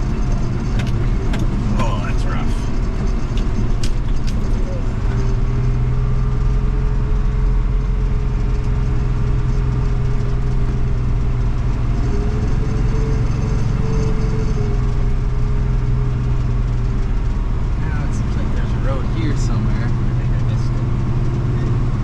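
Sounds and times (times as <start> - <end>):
pickup engine droning: 0.0 - 22.0.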